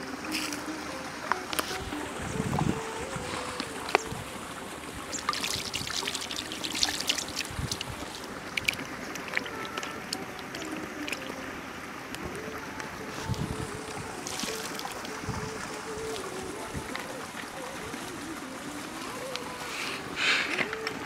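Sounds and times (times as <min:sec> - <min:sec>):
wet trickling: 0:00.0 - 0:21.0.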